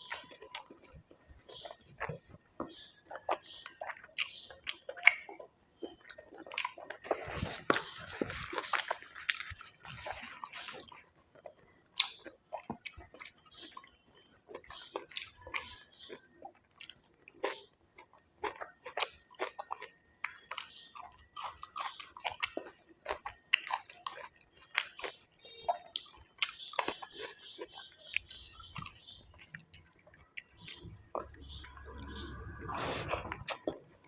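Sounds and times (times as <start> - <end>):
person chewing crunchy food: 0.0 - 34.0.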